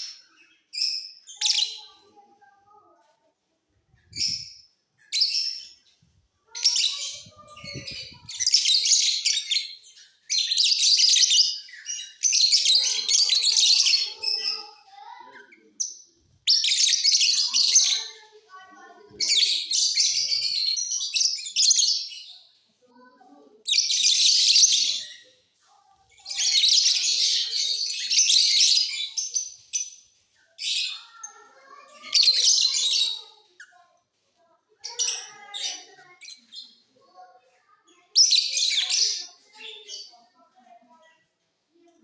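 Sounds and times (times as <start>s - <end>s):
lovebirds chattering: 4.0s - 22.6s, 23.5s - 41.3s.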